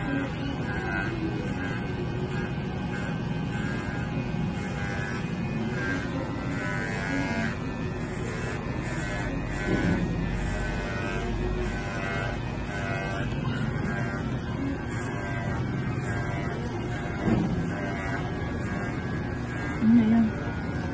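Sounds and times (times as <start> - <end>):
electric pet clipper buzzing: 0.0 - 20.9.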